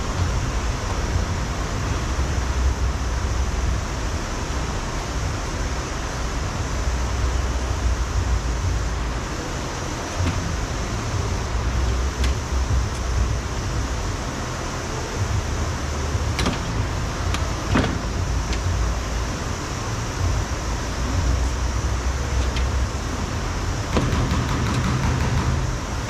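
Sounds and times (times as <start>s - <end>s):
low rumble and hiss: 0.0s - 26.0s.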